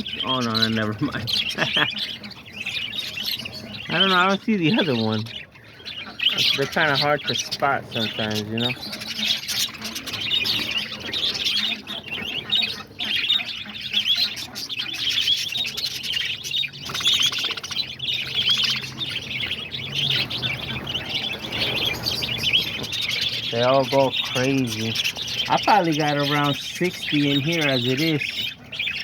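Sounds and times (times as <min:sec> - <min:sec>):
flock of birds chattering: 0:00.0 - 0:29.0.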